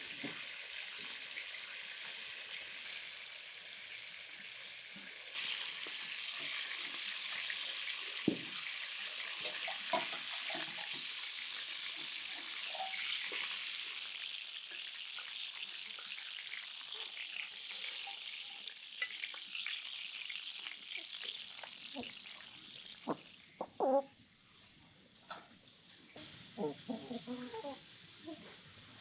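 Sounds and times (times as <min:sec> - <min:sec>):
chicken sizzling in oil: 0:00.0 - 0:23.5.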